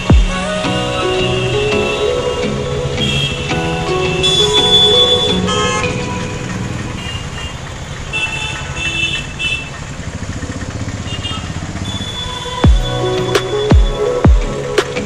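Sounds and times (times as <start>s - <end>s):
car horns honking: 0.0s - 14.2s
vehicle engines running: 0.0s - 15.0s.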